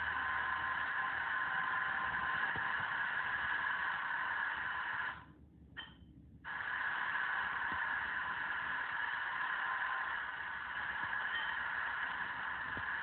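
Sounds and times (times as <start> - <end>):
model train engine sound effect: 0.0 - 5.2, 6.5 - 13.0.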